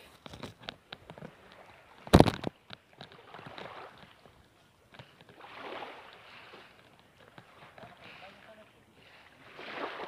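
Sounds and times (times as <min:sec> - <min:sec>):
small waves washing on sand: 0:00.9 - 0:10.0.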